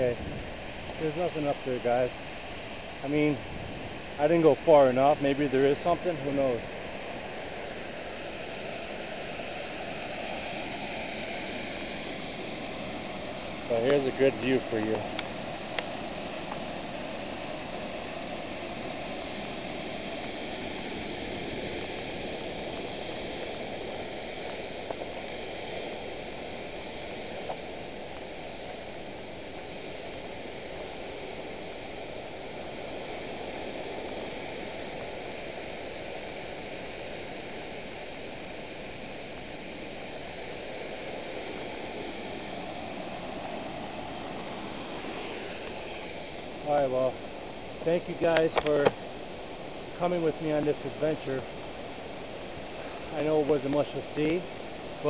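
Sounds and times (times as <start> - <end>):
water rushing over waterfall: 0.0 - 55.0.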